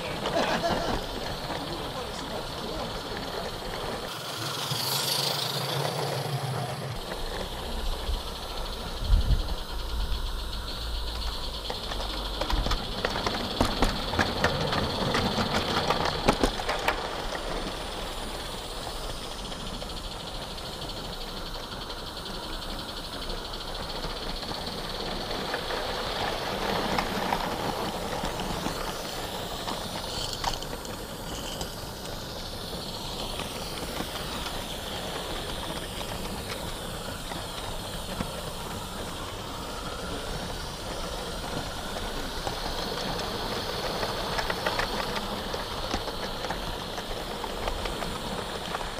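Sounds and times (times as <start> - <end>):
steam hiss: 0.0 - 48.9
wagon wheels rattling on rails: 0.0 - 48.9.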